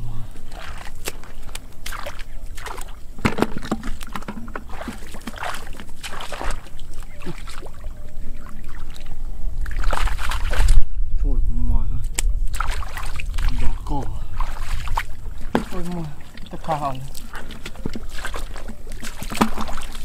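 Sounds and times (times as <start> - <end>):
feet wading through water: 0.0 - 11.0, 12.2 - 20.0
hands churning water: 0.3 - 10.8, 12.4 - 20.0.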